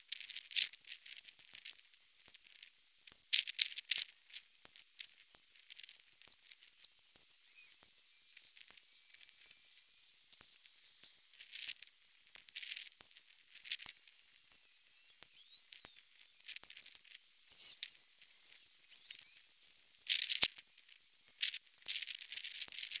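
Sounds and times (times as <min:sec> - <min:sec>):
high-pitched clicks and crackles: 0:00.0 - 0:23.0.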